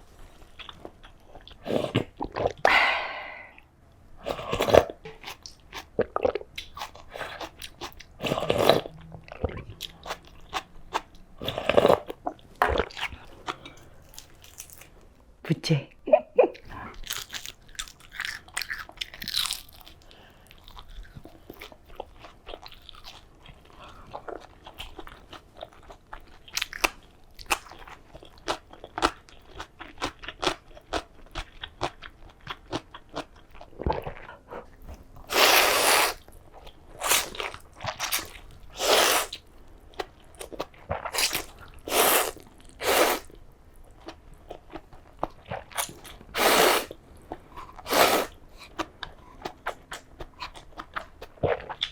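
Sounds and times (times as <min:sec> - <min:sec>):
person chewing and crunching food: 0:00.2 - 0:02.8, 0:04.2 - 0:15.1, 0:16.6 - 0:51.9.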